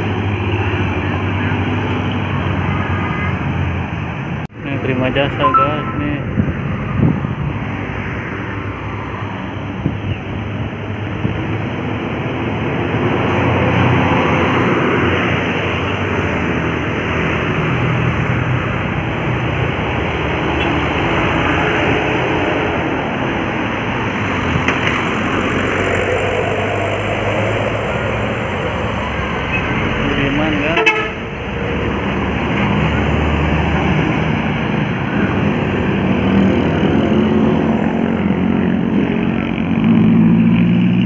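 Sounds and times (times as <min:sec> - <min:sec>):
heavy vehicles driving past: 0:00.0 - 0:41.0.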